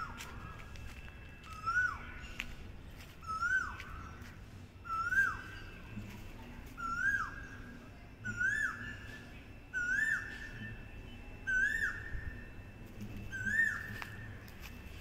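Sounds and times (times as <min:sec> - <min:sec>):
bird whistled calls: 0:00.0 - 0:02.6, 0:03.2 - 0:05.8, 0:06.8 - 0:12.4, 0:13.2 - 0:14.6.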